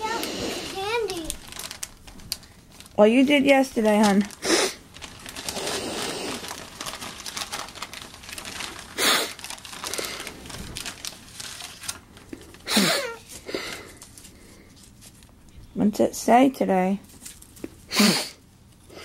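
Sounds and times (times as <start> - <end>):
paper bag crinkling and rustling: 0.0 - 15.3.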